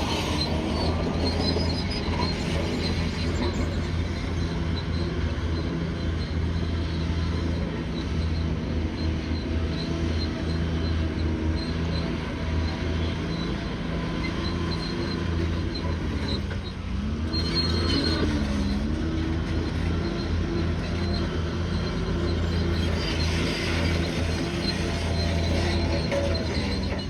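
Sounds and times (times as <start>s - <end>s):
diesel engine humming: 0.0s - 27.0s.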